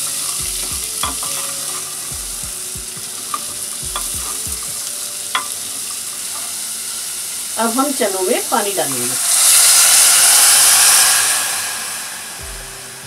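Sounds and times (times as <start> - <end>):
chickpeas sizzling in hot oil: 0.0 - 13.0.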